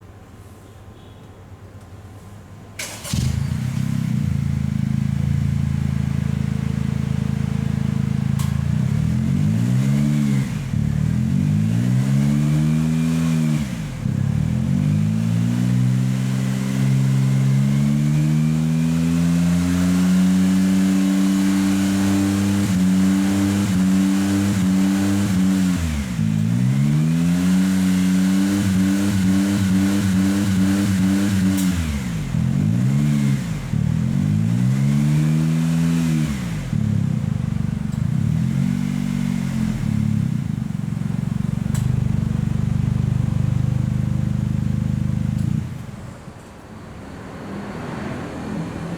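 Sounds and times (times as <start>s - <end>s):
car engine idling and revving: 2.8s - 48.9s.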